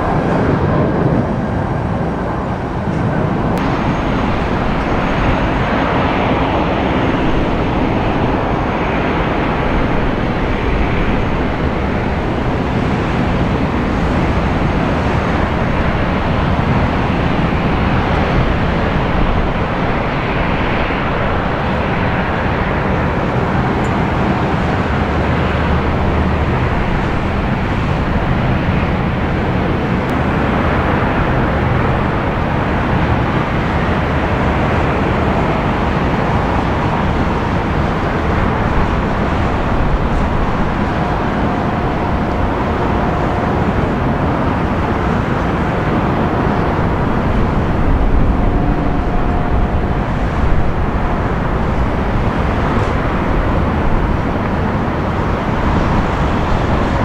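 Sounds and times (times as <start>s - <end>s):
airliner engines roaring: 0.0s - 57.0s
deep rumble: 0.0s - 57.0s
faint engine whine: 0.0s - 57.0s.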